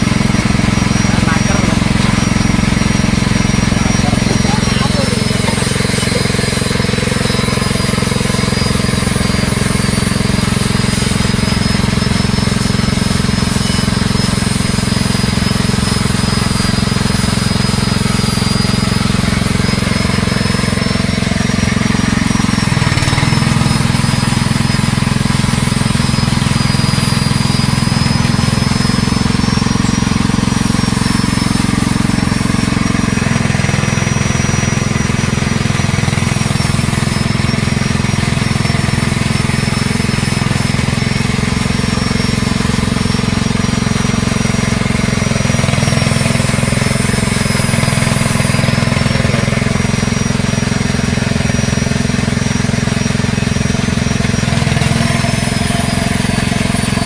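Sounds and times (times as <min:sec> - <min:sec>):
motor drone with high whine: 0:00.0 - 0:57.0.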